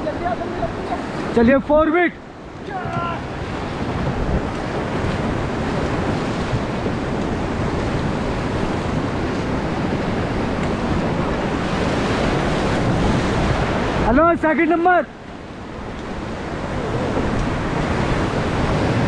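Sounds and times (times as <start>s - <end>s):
rushing white water: 0.0s - 19.0s
wind on microphone: 2.2s - 14.1s, 15.3s - 19.0s.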